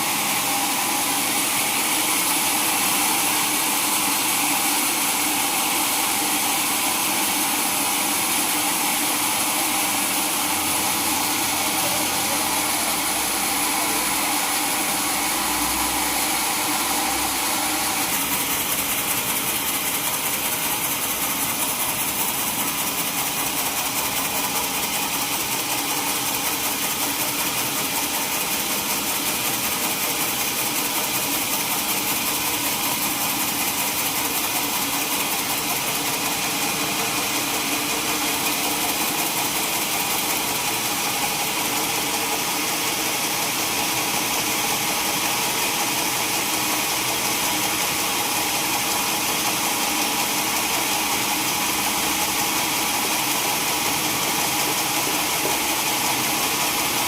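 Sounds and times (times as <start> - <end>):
sawmill saw whirring: 0.0 - 57.0.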